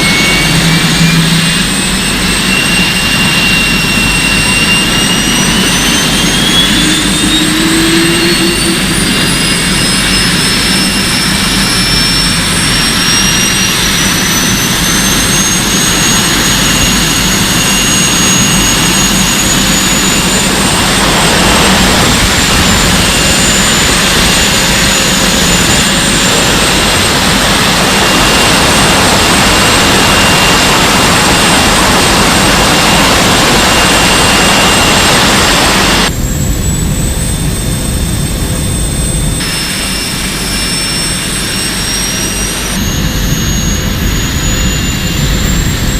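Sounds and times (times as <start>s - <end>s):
motor whining at high speed: 0.0s - 45.9s
rushing air: 0.0s - 45.9s.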